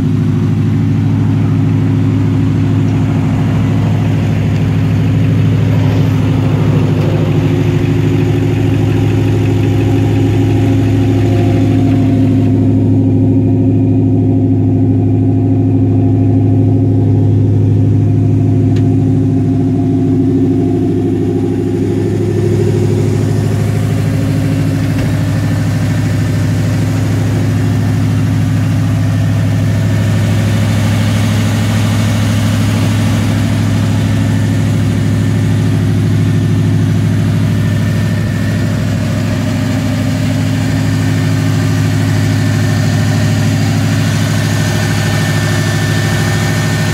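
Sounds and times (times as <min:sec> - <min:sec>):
truck engine idling: 0:00.0 - 0:46.9.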